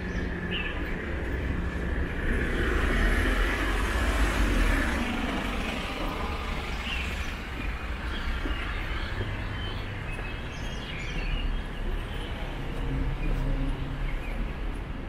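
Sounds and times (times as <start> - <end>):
low rumble of city traffic: 0.0 - 15.0.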